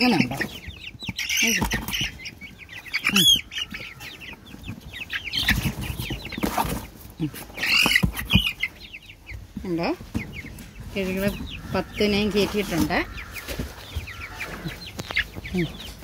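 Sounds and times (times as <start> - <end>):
young chickens peeping: 0.0 - 16.0.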